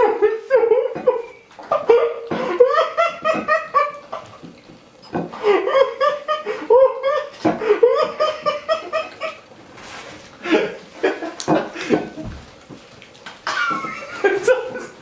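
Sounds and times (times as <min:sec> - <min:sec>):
person laughing hard: 0:00.0 - 0:04.5, 0:05.3 - 0:09.5, 0:10.4 - 0:12.4, 0:13.5 - 0:15.0.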